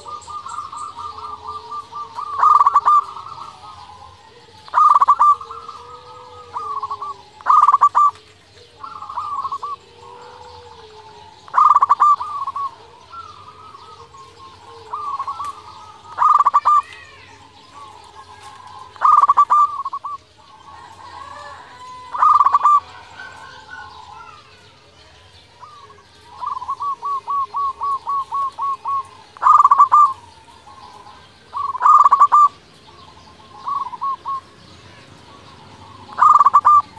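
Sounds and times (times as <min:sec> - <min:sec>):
dove cooing: 0:00.0 - 0:36.9.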